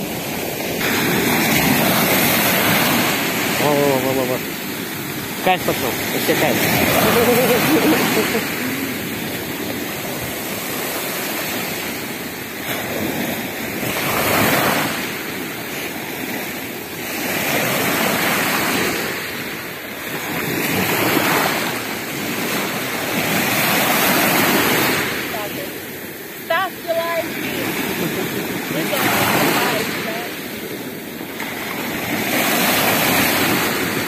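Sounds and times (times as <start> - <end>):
waves breaking on pebble beach: 0.0 - 34.0.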